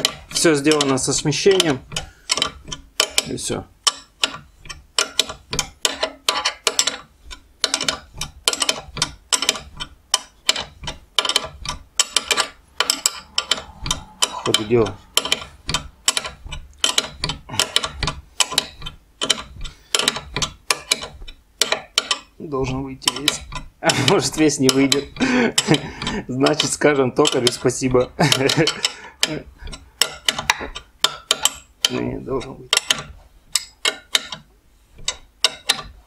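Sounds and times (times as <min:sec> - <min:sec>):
metallic clicking of bearing: 0:00.0 - 0:36.0.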